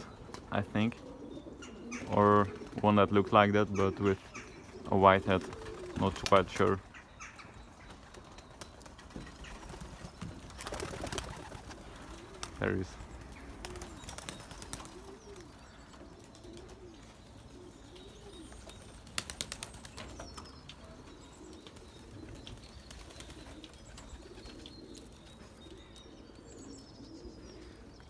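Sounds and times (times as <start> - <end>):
pigeons cooing: 0.0 - 28.0
small birds chirping: 0.0 - 28.0.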